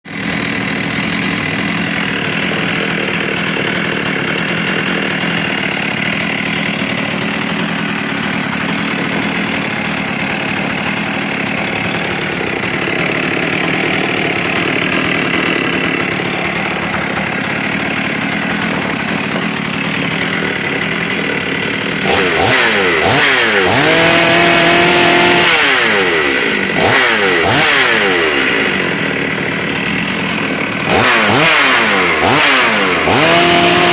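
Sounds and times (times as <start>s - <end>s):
chainsaw idling and revving: 0.0s - 33.9s.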